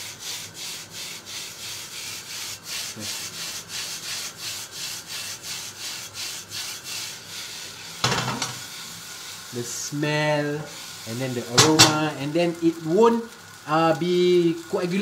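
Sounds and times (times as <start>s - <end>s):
noodles sizzling in a pan: 0.0s - 15.0s.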